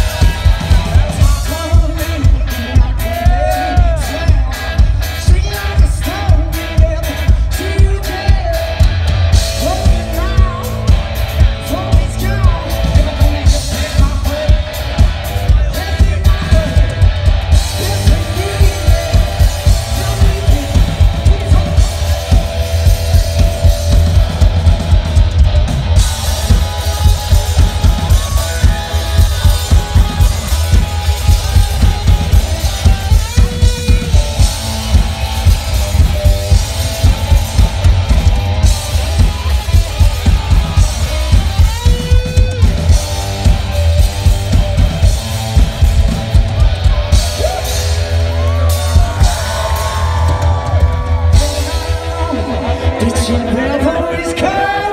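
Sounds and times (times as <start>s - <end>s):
distorted electric guitar: 0.0s - 54.9s
drum kit: 0.0s - 54.9s.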